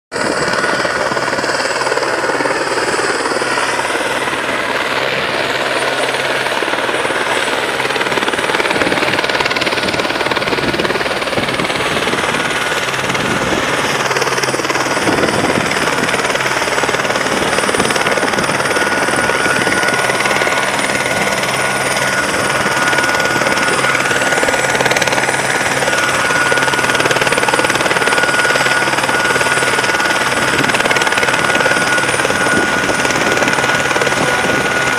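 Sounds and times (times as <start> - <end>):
helicopter rotor and engine: 0.1 - 34.9.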